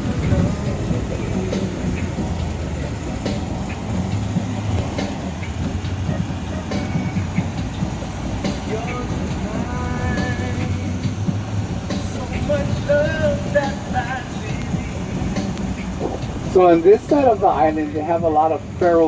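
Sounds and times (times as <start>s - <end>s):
rattles and clicks in cabin: 0.0s - 19.0s
van road and engine rumble: 0.0s - 19.0s.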